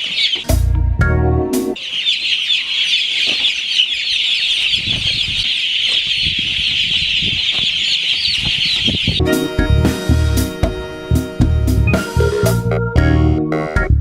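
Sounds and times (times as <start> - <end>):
chickens cheeping: 0.0 - 0.6, 1.6 - 12.8.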